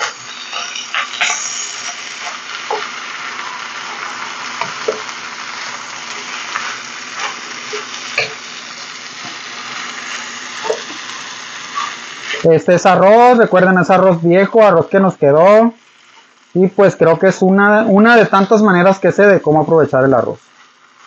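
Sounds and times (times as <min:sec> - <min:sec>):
rice sizzling in a wok: 0:00.0 - 0:21.0.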